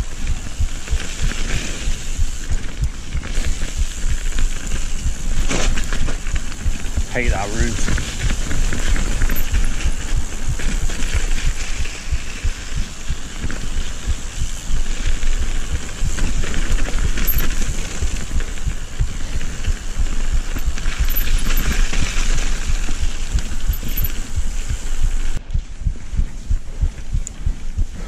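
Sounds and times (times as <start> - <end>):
bike knocking and rattling: 0.0 - 28.0
tyres and wind rushing hiss: 0.0 - 28.0.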